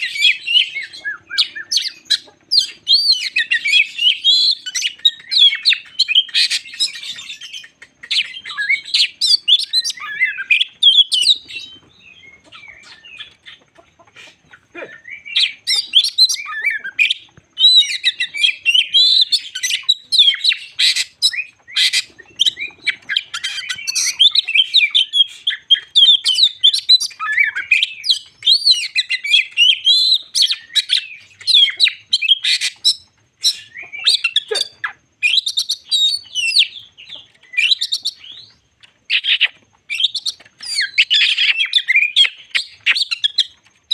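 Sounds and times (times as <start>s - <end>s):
magpie-robin singing: 0.0s - 13.6s, 15.0s - 43.9s.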